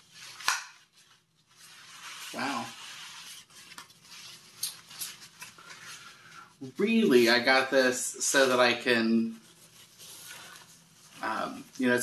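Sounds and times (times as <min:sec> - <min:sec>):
umbrella canopy rustling: 0:00.0 - 0:07.4, 0:08.2 - 0:12.0.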